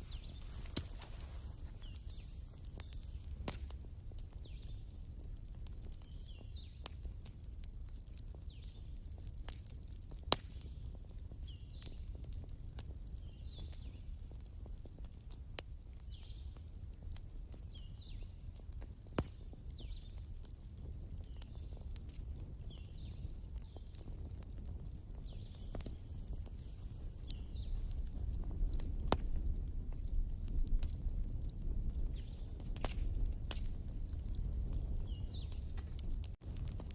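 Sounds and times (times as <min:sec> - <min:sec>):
fire crackles and pops: 0:00.0 - 0:36.9
wood fire rumble: 0:00.0 - 0:36.9.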